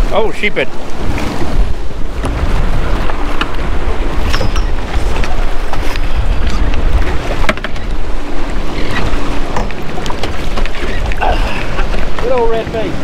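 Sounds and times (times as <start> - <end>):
water splashing against boat hull: 0.0 - 13.0
wind buffeting microphone: 0.0 - 13.0.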